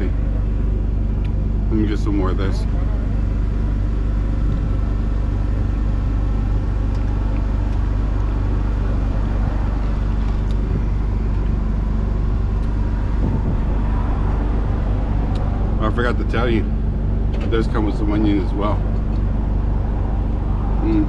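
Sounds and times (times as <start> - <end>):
engine idling hum: 0.0 - 21.0.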